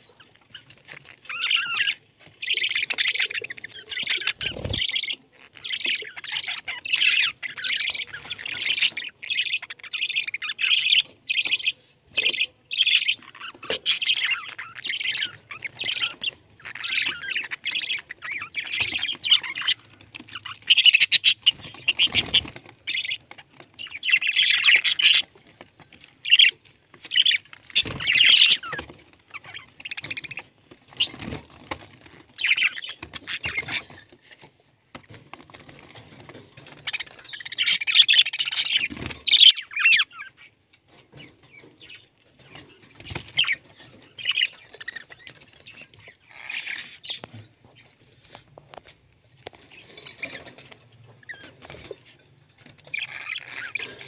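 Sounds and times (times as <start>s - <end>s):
budgerigars chattering and chirping: 0.0s - 34.5s, 35.6s - 48.5s, 49.4s - 54.0s.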